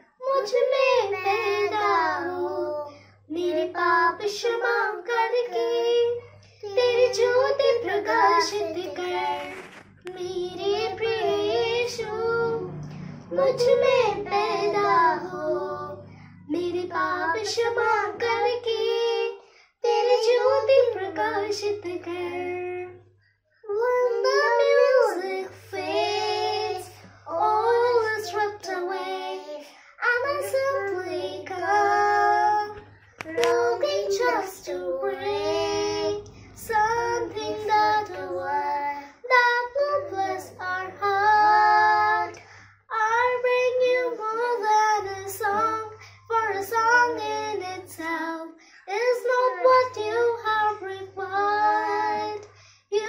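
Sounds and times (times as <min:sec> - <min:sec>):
child singing: 0:00.0 - 0:23.1, 0:23.7 - 0:53.0.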